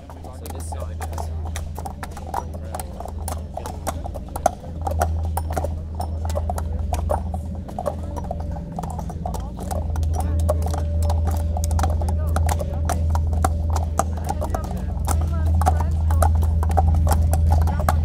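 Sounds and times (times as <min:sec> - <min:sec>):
low drone: 0:00.0 - 0:18.0.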